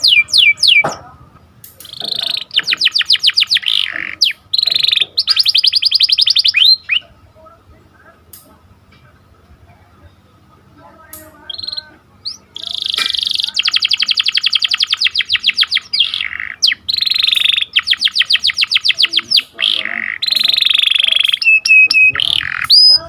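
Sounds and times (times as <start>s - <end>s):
canary singing trills: 0.0s - 1.1s, 1.8s - 7.2s, 10.9s - 23.0s.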